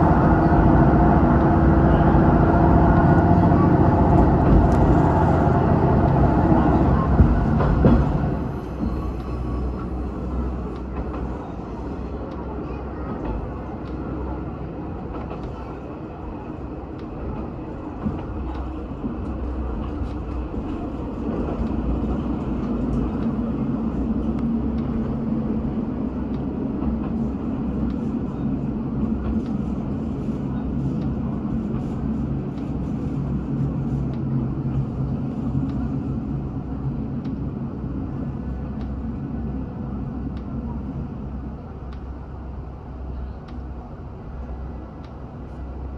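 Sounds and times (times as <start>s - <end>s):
diesel railcar engine drone: 0.0s - 45.9s.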